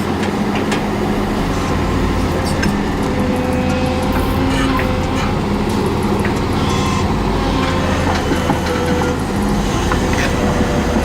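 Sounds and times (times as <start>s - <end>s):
heavy machinery engine rumble: 0.0s - 11.0s.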